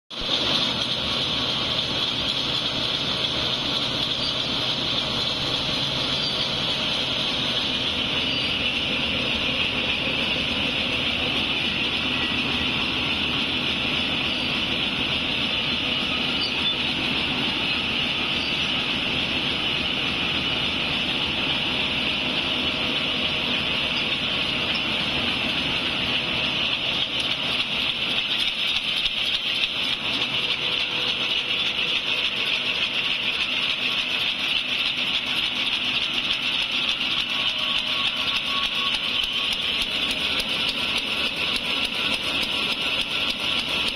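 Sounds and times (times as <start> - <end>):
fast mechanical clatter: 0.1 - 43.9.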